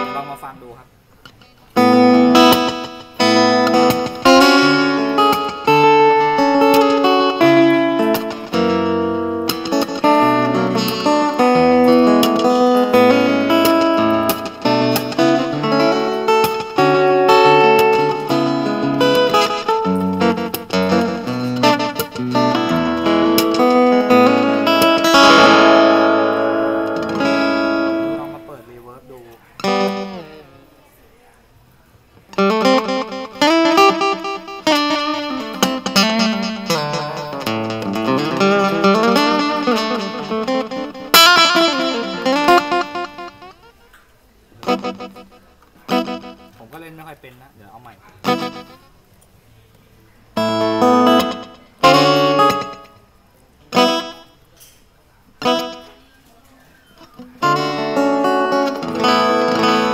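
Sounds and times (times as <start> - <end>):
amplified acoustic guitar tune: 0.0 - 31.0, 32.0 - 49.3, 50.1 - 59.9.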